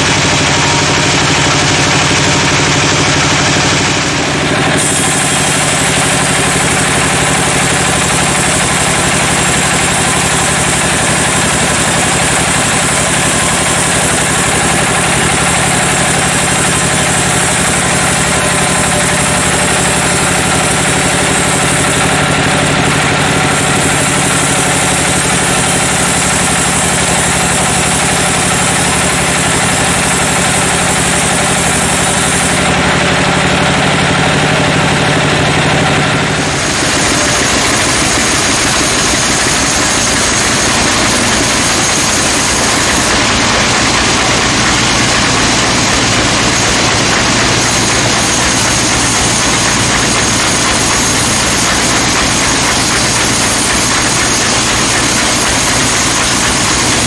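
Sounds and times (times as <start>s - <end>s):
band saw machine hum: 0.0s - 57.0s
saw blade hissing through log: 0.6s - 34.5s, 36.3s - 57.0s.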